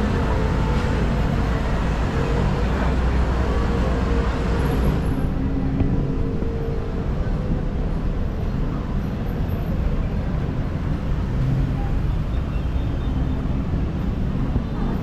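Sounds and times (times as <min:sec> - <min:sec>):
heavy road traffic roar: 0:00.0 - 0:15.0.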